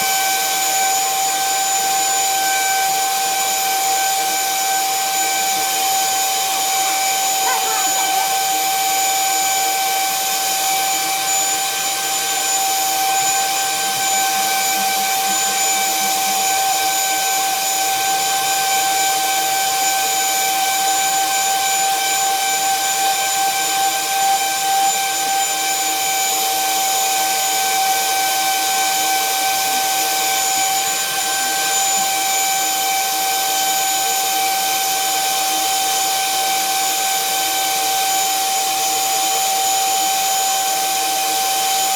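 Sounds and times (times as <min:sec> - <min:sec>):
electric drill whining into metal: 0:00.0 - 0:41.9.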